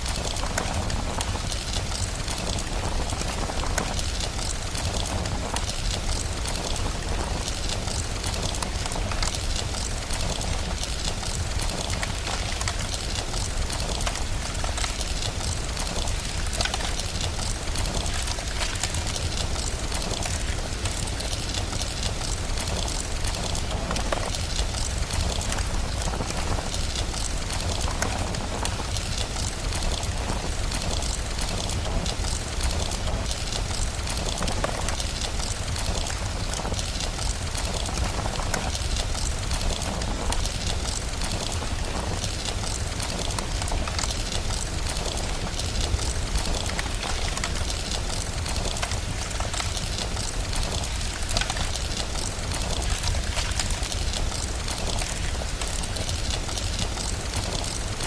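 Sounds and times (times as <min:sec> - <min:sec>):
steady rain hiss: 0:00.0 - 0:58.0
wood fire crackling: 0:00.0 - 0:58.0.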